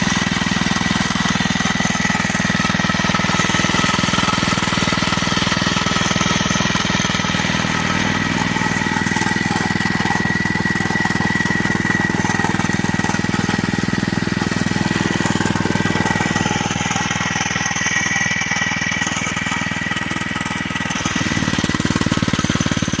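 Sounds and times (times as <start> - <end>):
small four-stroke engine running: 0.0 - 23.0.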